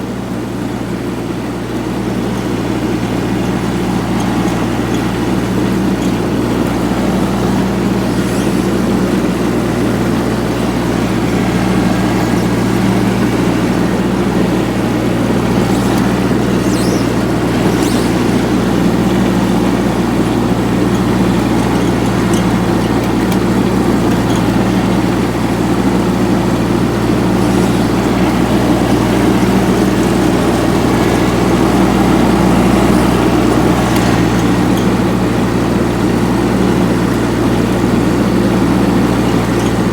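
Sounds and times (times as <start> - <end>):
ride-on mower diesel engine: 0.0 - 39.9.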